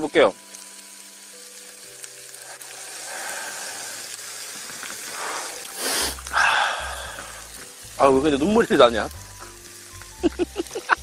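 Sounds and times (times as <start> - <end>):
meat sizzling on hot metal: 0.0 - 11.0.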